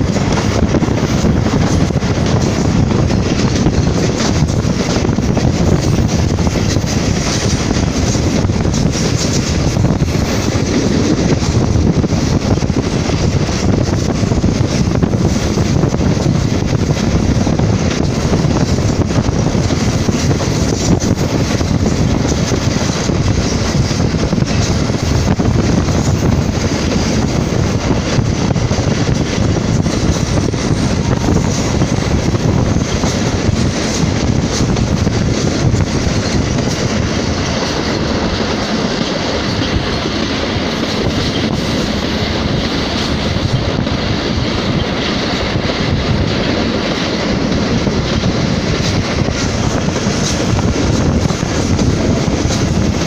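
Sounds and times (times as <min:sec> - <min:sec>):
train wheels rushing on track: 0:00.0 - 0:53.0.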